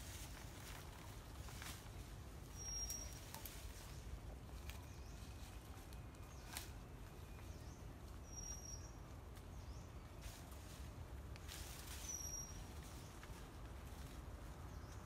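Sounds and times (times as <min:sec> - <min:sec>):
leaves rustling: 0:00.0 - 0:15.0.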